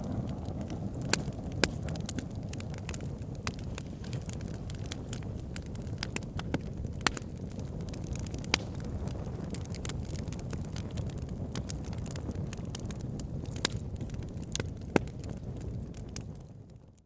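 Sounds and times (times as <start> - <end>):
fire flames rumbling: 0.0 - 17.0
wood crackling and popping: 0.0 - 17.0.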